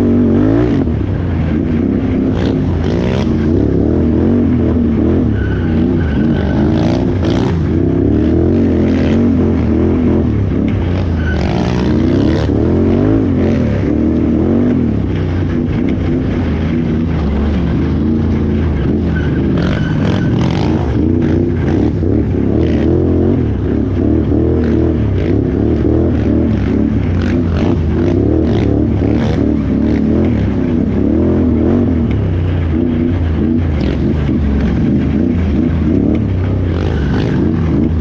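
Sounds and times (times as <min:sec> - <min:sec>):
atv engine revving hard: 0:00.0 - 0:38.0.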